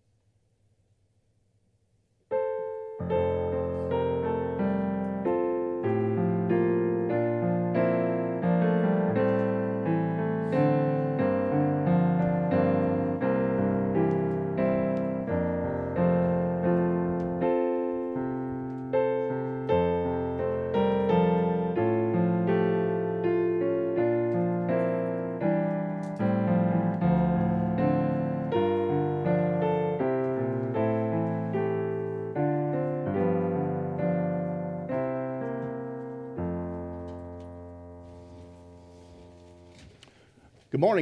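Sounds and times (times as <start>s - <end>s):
slow piano chords: 2.3s - 40.0s.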